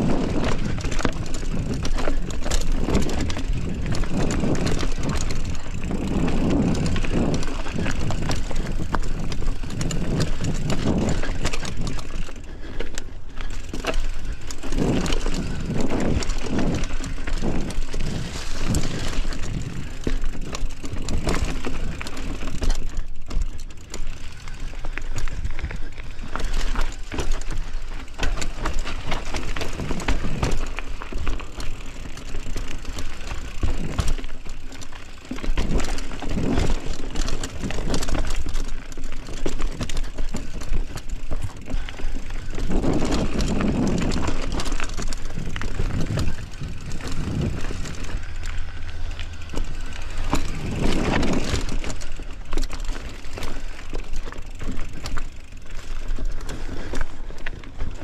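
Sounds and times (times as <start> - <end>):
bicycle rattles and clicks: 0.0 - 58.0
bicycle riding rumble: 0.0 - 58.0.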